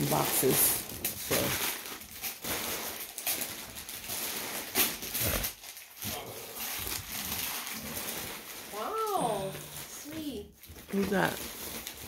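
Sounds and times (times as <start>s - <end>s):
wrapping paper rustling and tearing: 0.0s - 12.0s.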